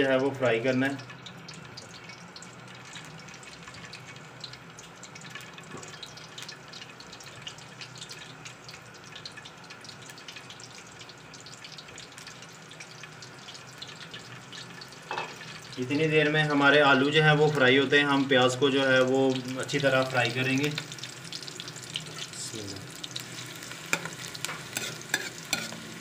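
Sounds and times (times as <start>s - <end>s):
potatoes sizzling in oil: 0.0s - 26.0s.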